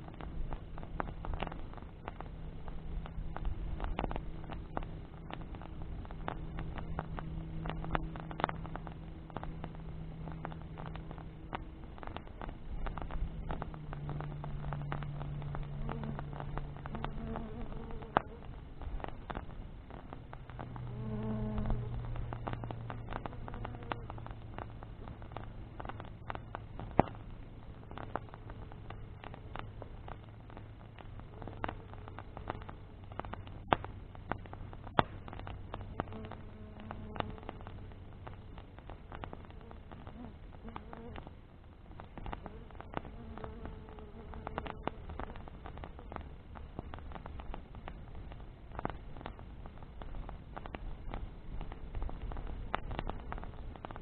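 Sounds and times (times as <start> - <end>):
bonfire crackling and popping: 0.0 - 54.0
low rumble of burning fire: 0.0 - 54.0
steady low hum: 0.0 - 54.0.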